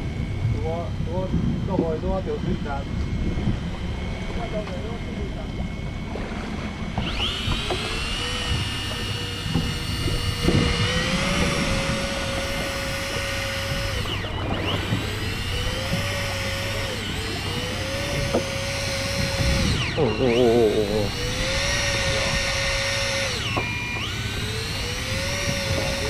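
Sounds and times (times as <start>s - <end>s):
fishing reel motor whining: 0.0s - 26.0s.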